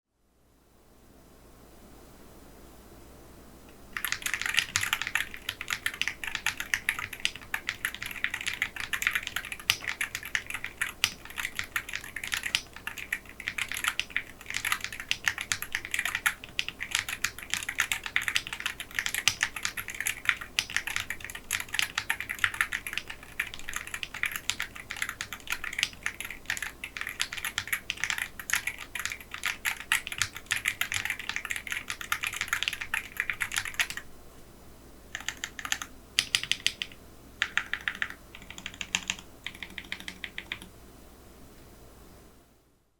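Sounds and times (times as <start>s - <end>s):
fast typing on mechanical keyboard: 4.0s - 34.0s, 35.1s - 40.7s.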